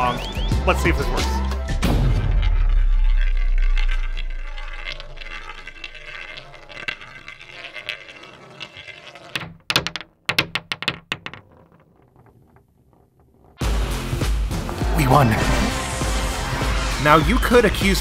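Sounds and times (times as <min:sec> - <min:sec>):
roulette ball whirring and clattering: 0:00.8 - 0:18.0.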